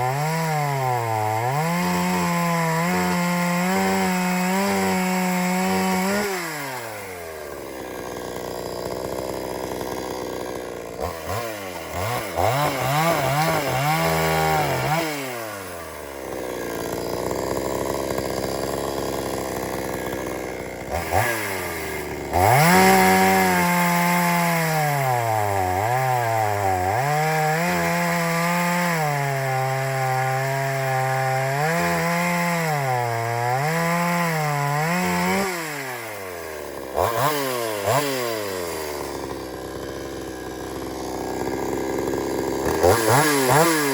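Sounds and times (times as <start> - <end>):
chainsaw cutting log: 0.0 - 43.9
chainsaw engine revving: 0.0 - 43.9.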